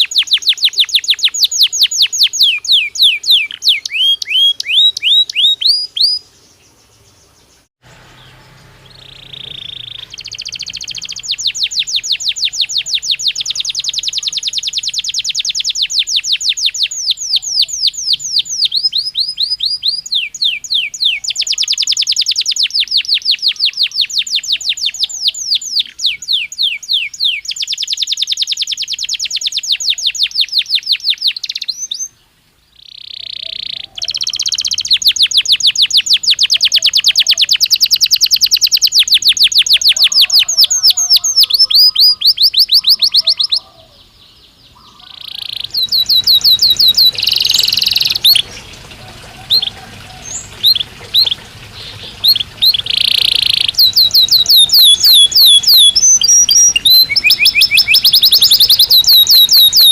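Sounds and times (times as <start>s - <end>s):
canary singing trills: 0.0s - 32.2s, 32.8s - 59.9s.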